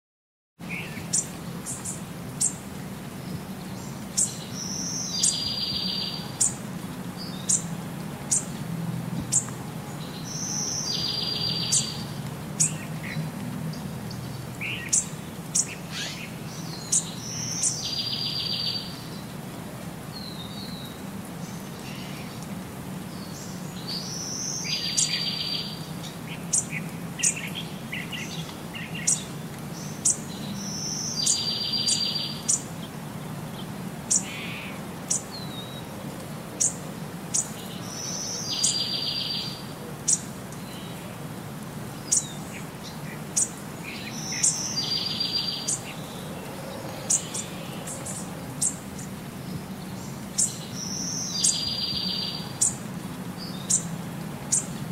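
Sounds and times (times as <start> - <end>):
small birds chirping: 0.6 - 8.6, 9.2 - 19.4, 20.1 - 41.2, 41.9 - 54.9.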